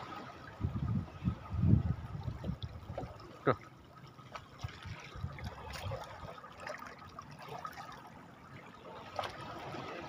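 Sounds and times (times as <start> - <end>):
seawater lapping among rocks: 0.0 - 10.0.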